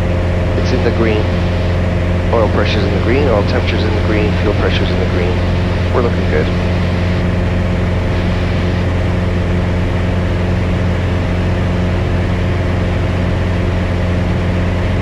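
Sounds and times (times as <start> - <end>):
airplane engine droning in cabin: 0.0 - 15.0.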